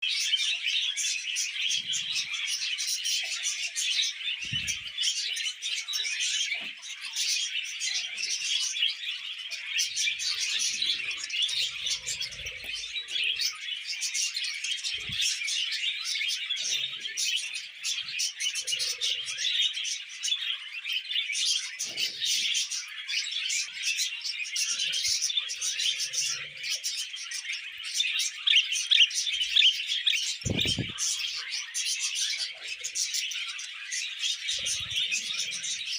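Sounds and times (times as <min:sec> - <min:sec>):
budgerigars warbling and chattering: 0:00.0 - 0:35.9.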